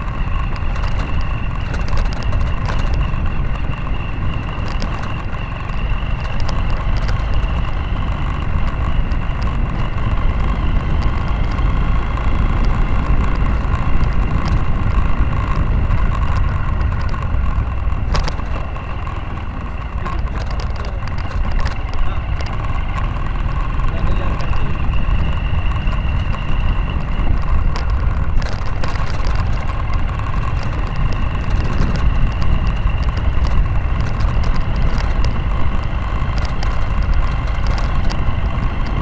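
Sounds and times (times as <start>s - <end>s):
clicks and rattles from bumps: 0.0s - 39.0s
motorcycle engine rumbling: 0.0s - 39.0s.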